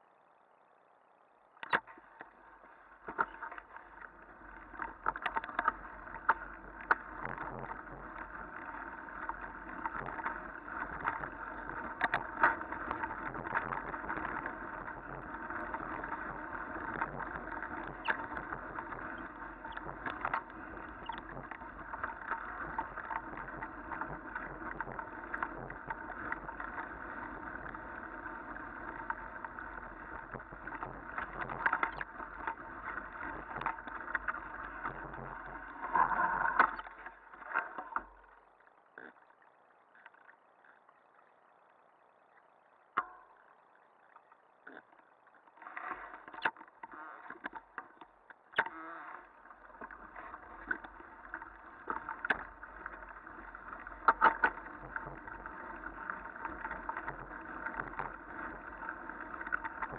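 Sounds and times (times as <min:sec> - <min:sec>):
bike rattling over bumps: 0:01.8 - 0:38.4, 0:46.7 - 0:59.9.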